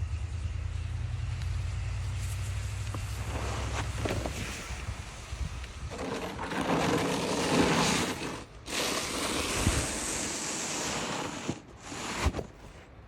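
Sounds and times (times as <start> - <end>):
snow pusher blade scraping snow: 2.2 - 12.8.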